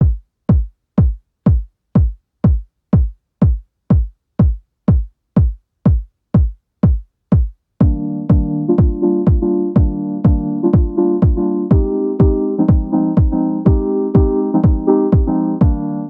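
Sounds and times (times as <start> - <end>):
drum machine kick drum: 0.0 - 16.0.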